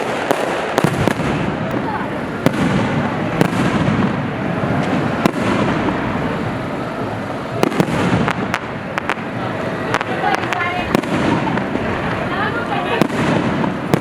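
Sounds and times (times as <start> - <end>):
fireworks crackle and rumble: 0.0 - 14.0
fireworks sharp bangs: 0.0 - 14.0.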